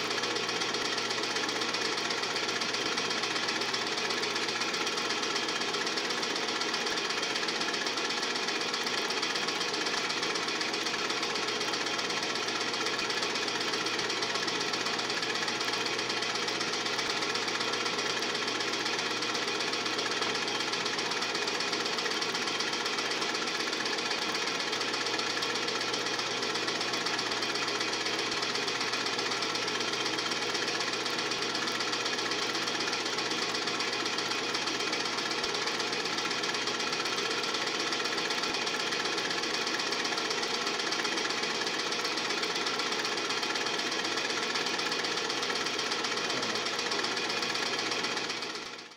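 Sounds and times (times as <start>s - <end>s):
film projector clattering: 0.0s - 48.9s.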